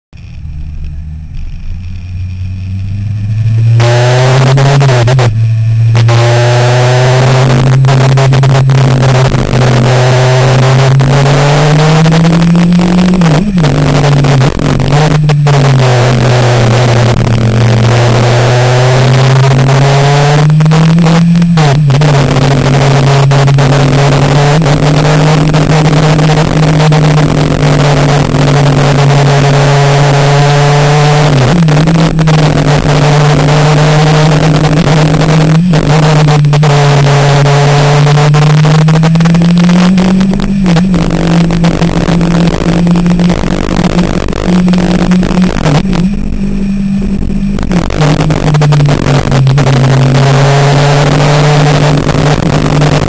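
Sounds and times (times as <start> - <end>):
motorcycle engine shifting gears: 0.1 - 53.0.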